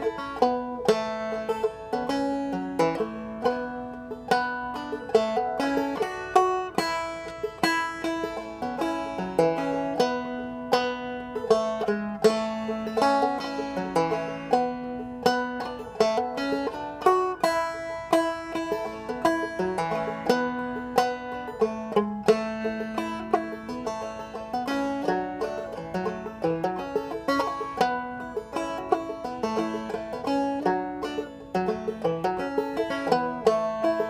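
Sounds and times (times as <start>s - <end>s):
banjo plucking: 0.0s - 34.0s.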